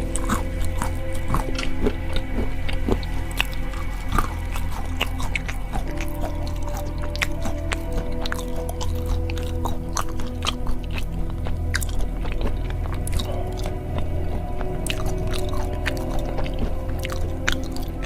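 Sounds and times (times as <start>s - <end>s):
background music: 0.0s - 18.0s
chewing and crunching peanuts: 0.0s - 18.0s.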